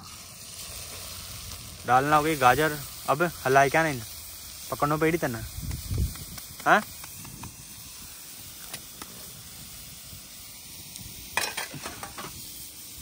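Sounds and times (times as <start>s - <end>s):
carrots sizzling in hot fat: 0.0s - 13.0s.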